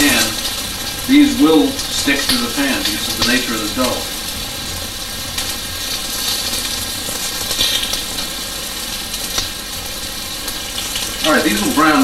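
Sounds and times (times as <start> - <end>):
dumplings sizzling in oil: 0.0 - 12.0
steady low hum: 0.0 - 12.0.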